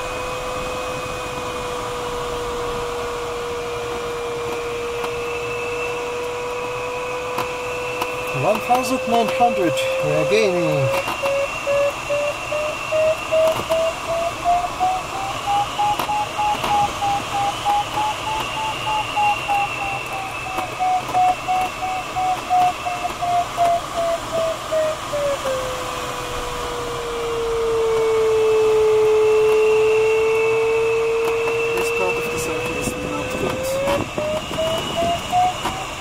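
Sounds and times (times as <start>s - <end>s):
variometer continuous tone: 0.0s - 36.0s.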